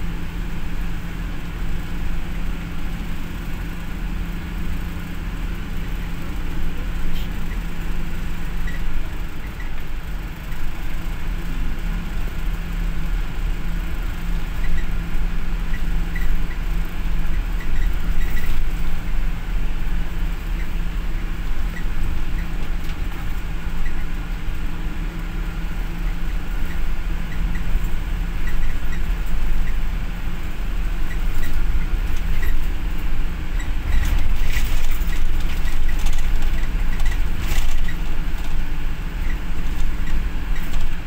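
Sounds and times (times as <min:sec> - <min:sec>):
bus engine and road rumble: 0:00.0 - 0:41.0.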